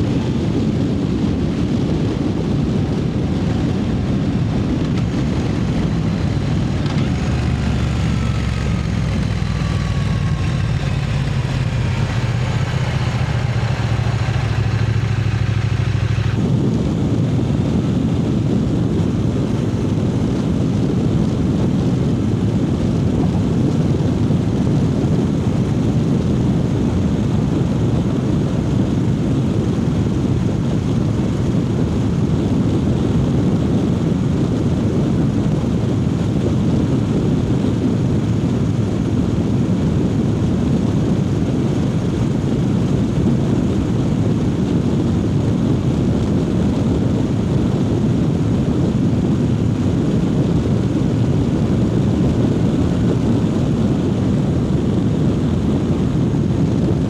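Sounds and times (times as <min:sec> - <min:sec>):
riding wind noise: 0:00.0 - 0:57.0
motorcycle engine cruising: 0:00.1 - 0:57.0.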